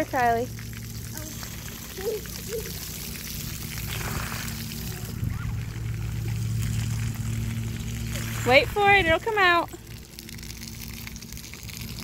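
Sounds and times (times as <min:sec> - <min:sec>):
low hum: 0:00.0 - 0:12.0
water rushing: 0:00.0 - 0:12.0.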